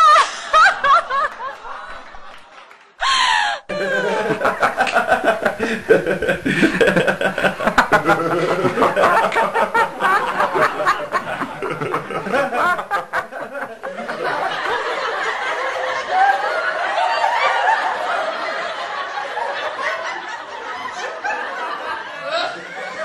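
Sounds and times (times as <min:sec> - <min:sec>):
people laughing and chattering: 0:00.0 - 0:23.0.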